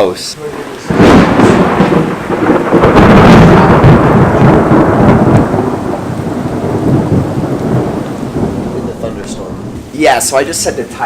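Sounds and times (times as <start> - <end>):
loud rolling thunder: 0.0 - 11.0
torrential rain: 0.0 - 11.0.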